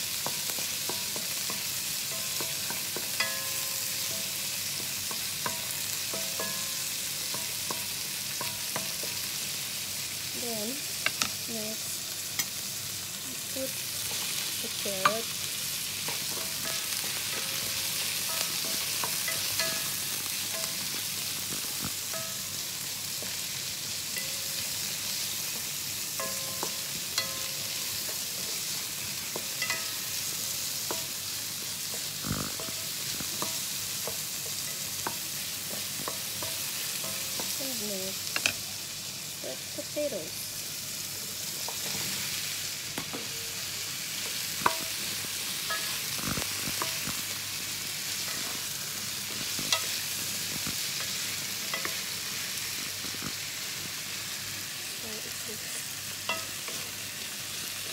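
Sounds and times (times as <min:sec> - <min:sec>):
meat and carrots sizzling: 0:00.0 - 0:57.9.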